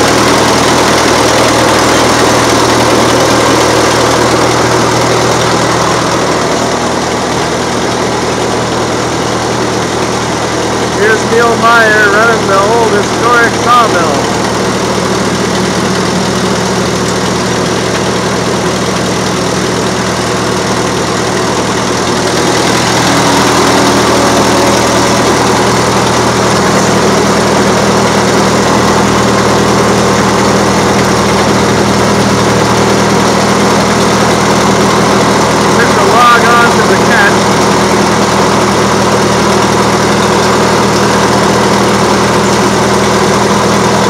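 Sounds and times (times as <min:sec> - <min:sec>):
sawmill machinery drone: 0:00.0 - 0:44.0.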